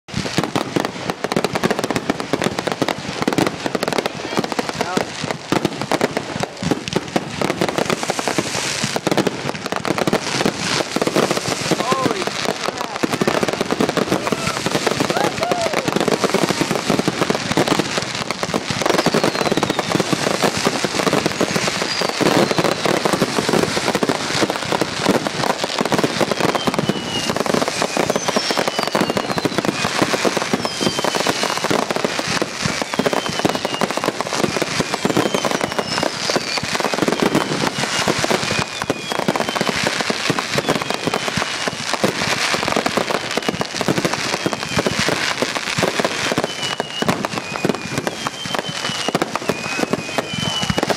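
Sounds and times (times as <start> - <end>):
fireworks launching and banging: 0.1 - 50.9
fireworks whistling: 0.1 - 50.9.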